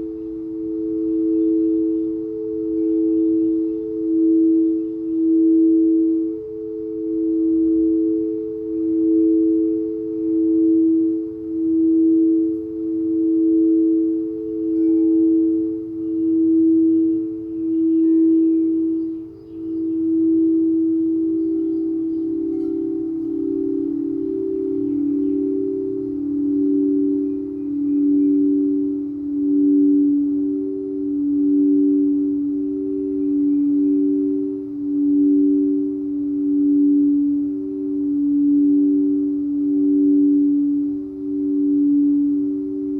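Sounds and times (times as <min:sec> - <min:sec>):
singing bowls two-note drone: 0:00.0 - 0:42.9.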